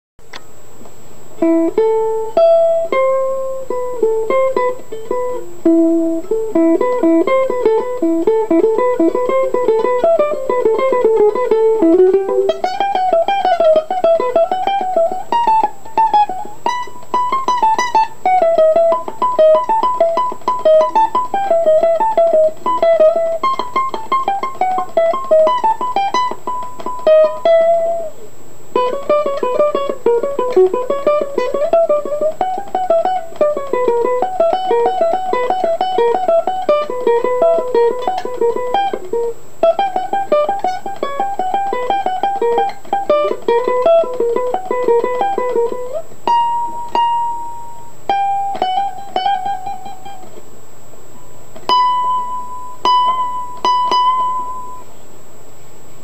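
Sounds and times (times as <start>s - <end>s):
acoustic guitar fingerpicking: 1.4s - 50.5s, 51.5s - 54.9s.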